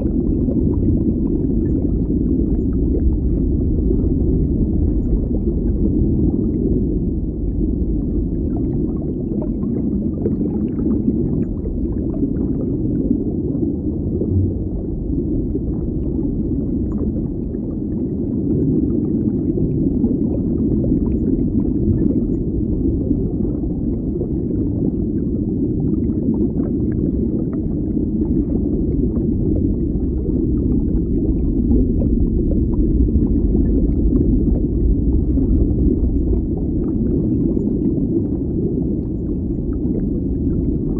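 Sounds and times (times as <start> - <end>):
faint crackles and pops: 0.0 - 40.9
underwater rumble: 0.0 - 40.9.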